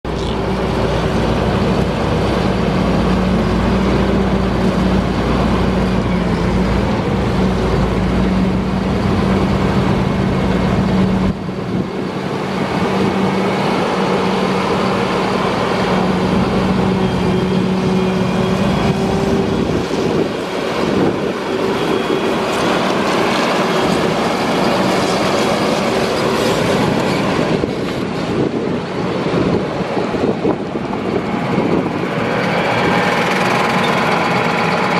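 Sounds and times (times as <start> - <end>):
tractor diesel engine humming: 0.0 - 34.9
tractor tracks running: 0.0 - 34.9.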